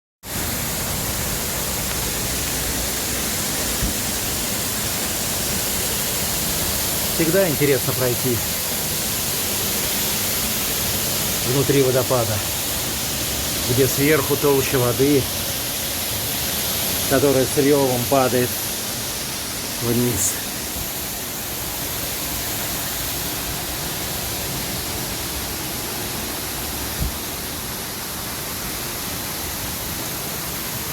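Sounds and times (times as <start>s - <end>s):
waterfall roaring: 0.3s - 30.9s.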